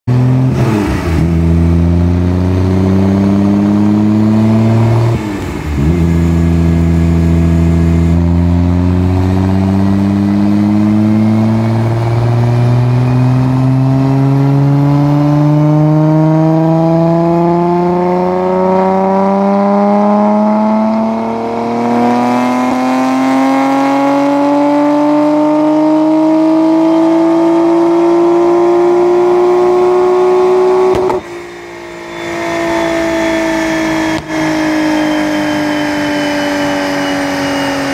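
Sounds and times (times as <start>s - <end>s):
car engine revving on dyno: 0.0s - 37.9s.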